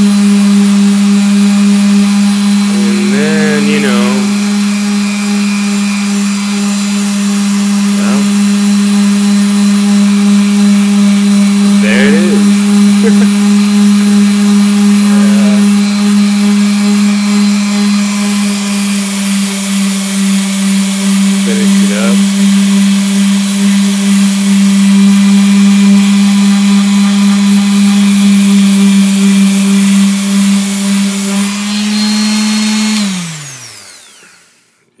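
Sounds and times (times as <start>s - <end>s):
electric sander humming: 0.0s - 35.0s
sandpaper rubbing canvas: 2.2s - 32.6s.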